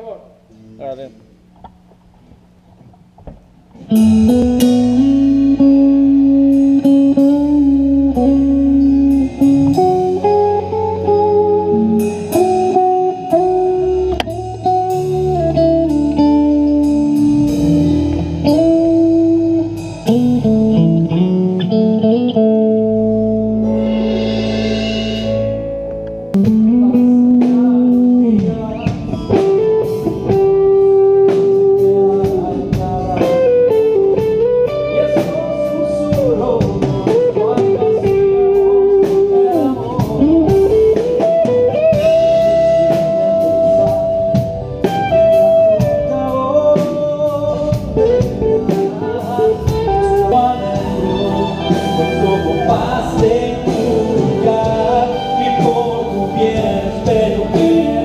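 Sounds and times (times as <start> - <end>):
electric guitar bending notes: 0.4 - 58.0
band playing: 3.6 - 58.0.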